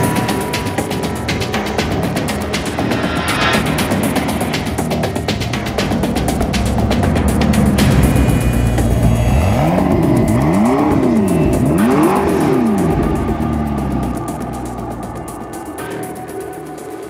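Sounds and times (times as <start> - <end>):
car engine revving: 0.0 - 15.8
background music with beat: 0.0 - 17.0.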